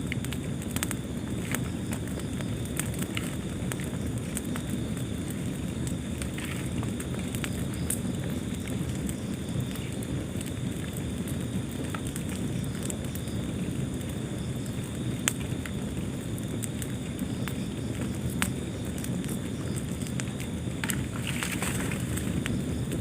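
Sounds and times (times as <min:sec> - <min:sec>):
flames rumbling: 0:00.0 - 0:23.0
wood fire crackling: 0:00.0 - 0:23.0.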